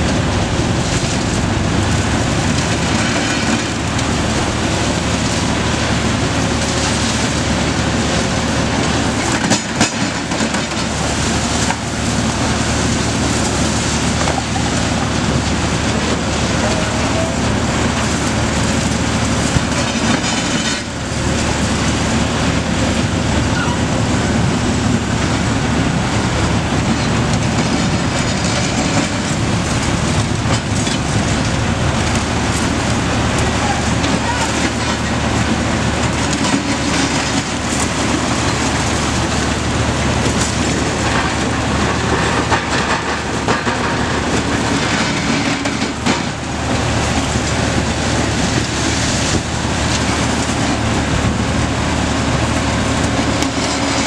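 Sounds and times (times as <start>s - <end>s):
excavators running under load: 0.0s - 54.0s.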